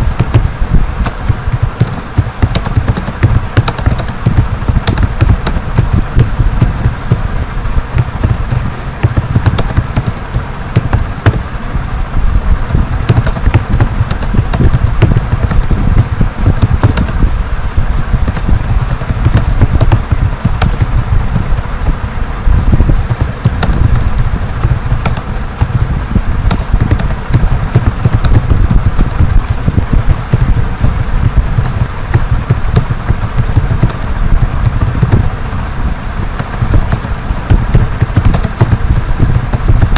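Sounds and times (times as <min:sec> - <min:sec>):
keyboard keystroke clicks: 0:00.0 - 0:11.4, 0:12.7 - 0:17.2, 0:18.1 - 0:21.7, 0:23.1 - 0:25.9, 0:26.5 - 0:35.4, 0:36.4 - 0:39.9
steady low rumble: 0:00.0 - 0:39.9.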